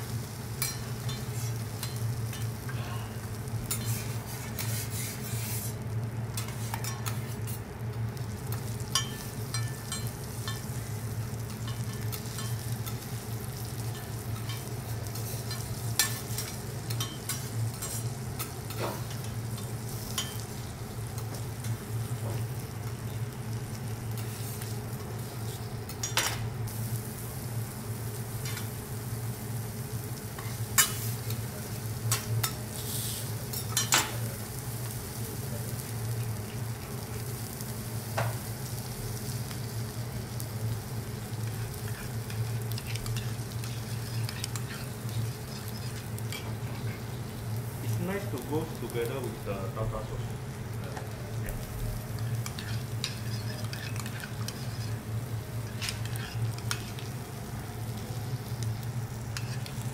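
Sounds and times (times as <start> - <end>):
food sizzling on a hotplate: 0.0 - 59.9.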